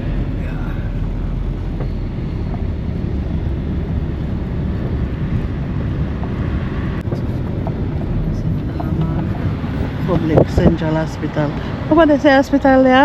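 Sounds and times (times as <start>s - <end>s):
wind buffeting microphone: 0.0s - 12.2s
car driving interior rumble: 0.0s - 13.0s.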